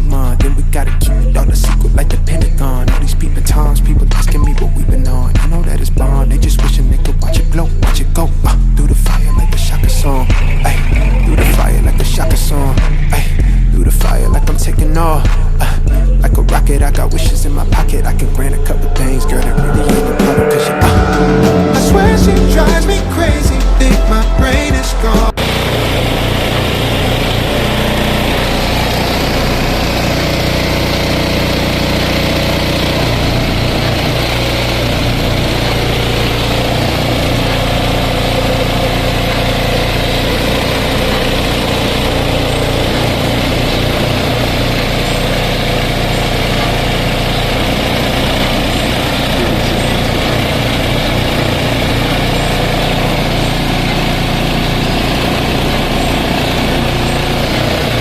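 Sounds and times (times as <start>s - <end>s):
engine idling: 0.0s - 20.0s, 20.8s - 58.0s.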